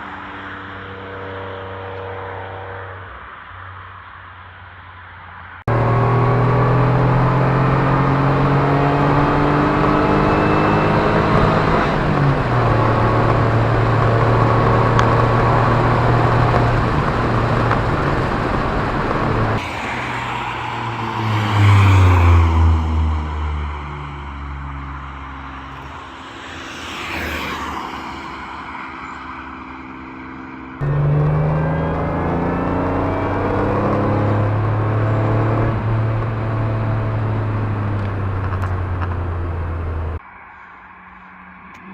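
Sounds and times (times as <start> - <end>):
car engine and exhaust accelerating: 0.0 - 41.9.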